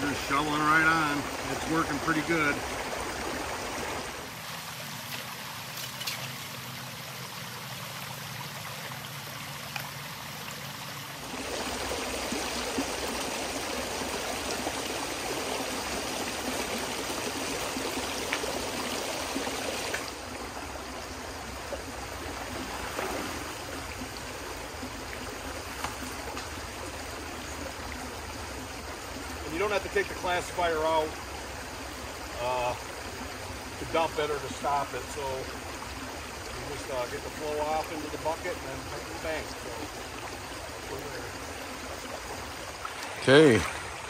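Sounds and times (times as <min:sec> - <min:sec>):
creek water running over rocks: 0:00.0 - 0:44.0.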